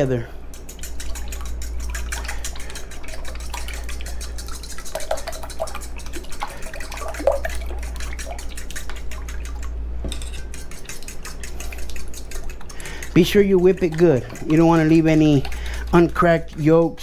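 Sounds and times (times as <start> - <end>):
liquid sloshing: 0.0 - 17.0
steady low hum: 0.0 - 17.0
utensil clicking against metal bowl: 0.0 - 17.0.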